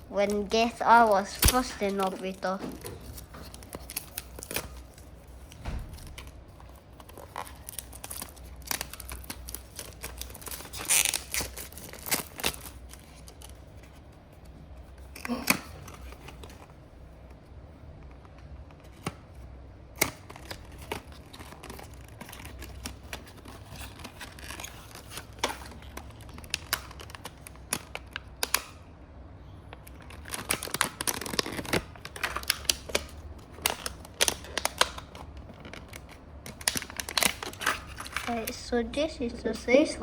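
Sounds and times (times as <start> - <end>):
packaging rustling: 0.0 - 17.3, 18.0 - 28.8, 29.8 - 38.7.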